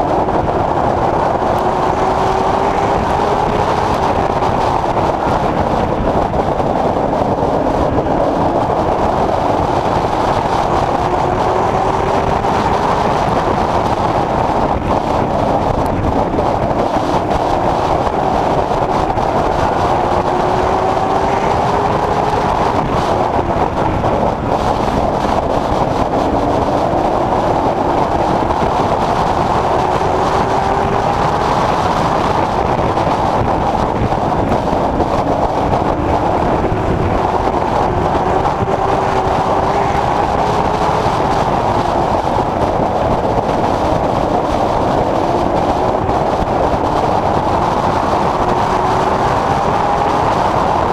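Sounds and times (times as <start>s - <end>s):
race car engine: 0.0s - 50.9s.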